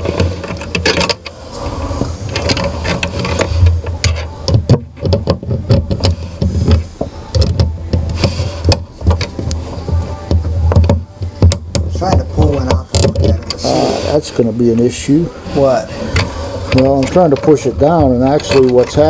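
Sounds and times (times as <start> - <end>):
metal parts clicking and knocking: 0.0 - 13.8, 16.1 - 19.0
steady low hum: 0.0 - 19.0.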